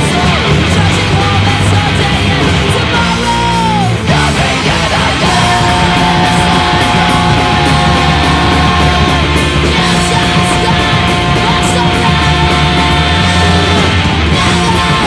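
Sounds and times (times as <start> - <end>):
bass guitar: 0.0 - 15.0
distorted electric guitars: 0.0 - 15.0
drums with cymbals: 0.0 - 15.0.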